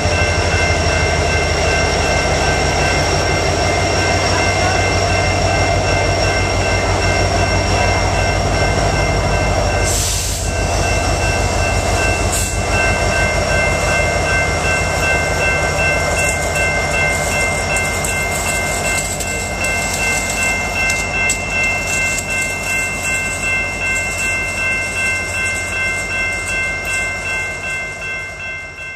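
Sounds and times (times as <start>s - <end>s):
high ringing tone: 0.0s - 28.9s
train wheels over rail joints: 0.0s - 28.9s.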